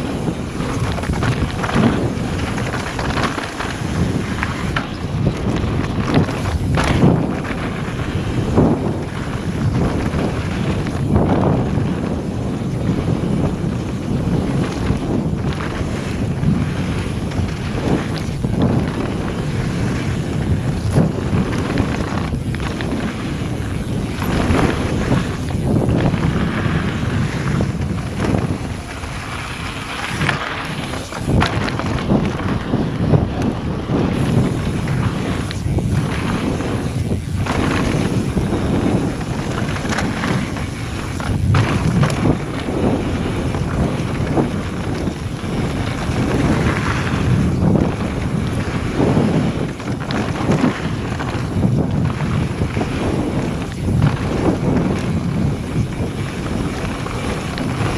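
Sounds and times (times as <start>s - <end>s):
bike knocks and rattles: 0.0s - 57.9s
bike tyres rolling over gravel: 0.0s - 57.9s
wind buffeting microphone: 0.0s - 57.9s.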